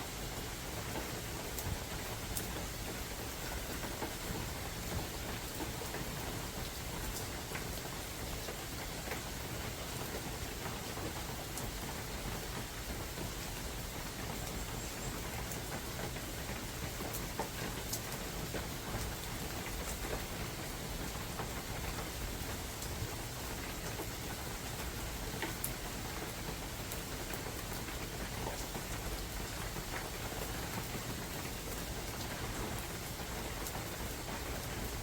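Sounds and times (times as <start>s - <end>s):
rain falling in forest: 0.0s - 35.0s
raindrops ticking close by: 0.0s - 35.0s.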